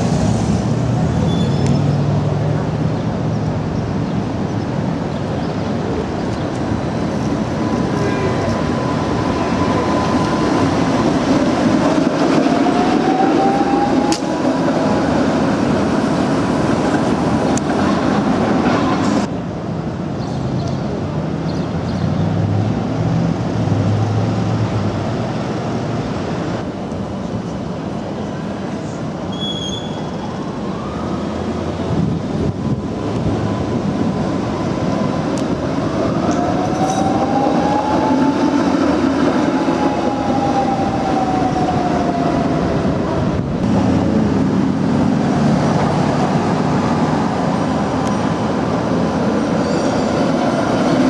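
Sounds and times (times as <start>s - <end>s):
streetcars rumbling on rails: 0.0s - 51.0s.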